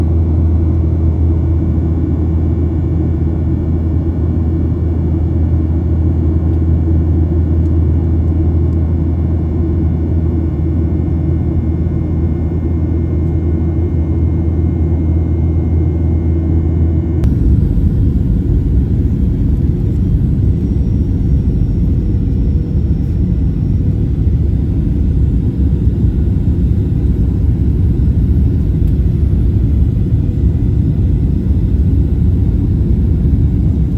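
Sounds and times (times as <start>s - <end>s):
airliner engine rumble in cabin: 0.0s - 33.9s.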